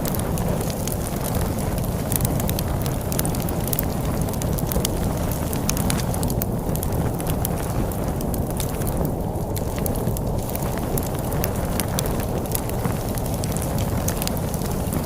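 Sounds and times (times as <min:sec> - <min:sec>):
storm wind: 0:00.0 - 0:15.0
wood fire crackling and popping: 0:00.0 - 0:15.0.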